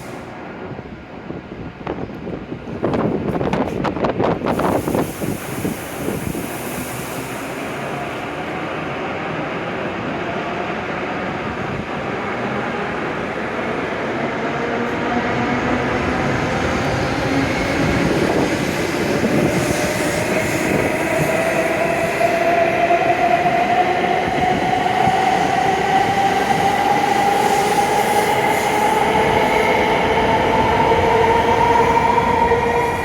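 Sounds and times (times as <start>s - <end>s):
train rolling noise: 0.0s - 33.0s.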